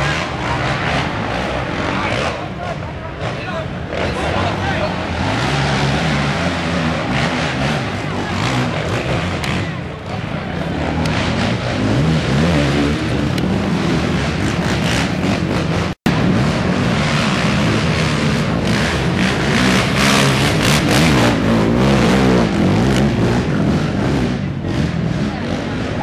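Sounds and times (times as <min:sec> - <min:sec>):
quad engines revving: 0:00.0 - 0:26.0.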